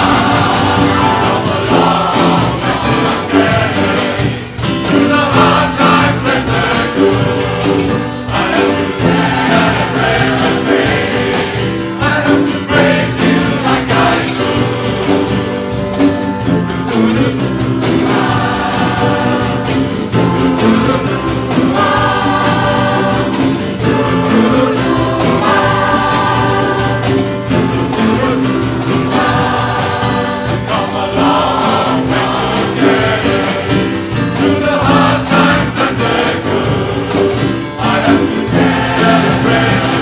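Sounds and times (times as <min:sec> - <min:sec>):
choir singing in harmony: 0:00.0 - 0:40.0
percussion band drumming: 0:00.0 - 0:40.0.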